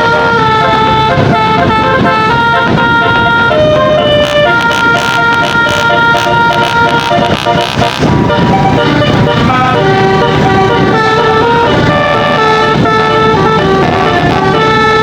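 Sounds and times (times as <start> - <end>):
multi-tone musical bus horn: 0.0 - 15.0.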